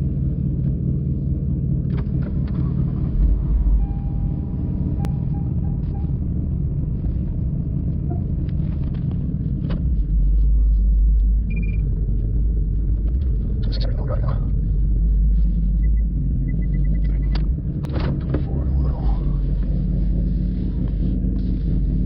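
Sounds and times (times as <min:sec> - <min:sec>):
car engine idling rumble: 0:00.0 - 0:22.0.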